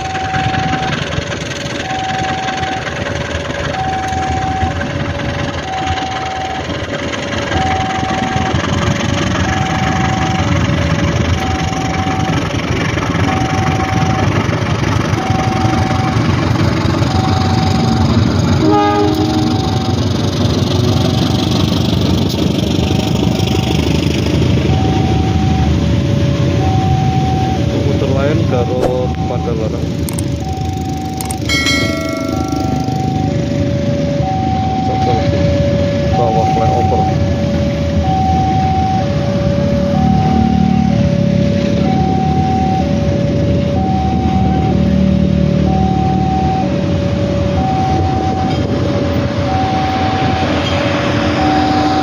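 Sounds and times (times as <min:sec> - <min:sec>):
level-crossing alarm two-tone: 0:00.0 - 0:20.0, 0:24.6 - 0:52.0
train engine and wheel rumble: 0:00.0 - 0:52.0.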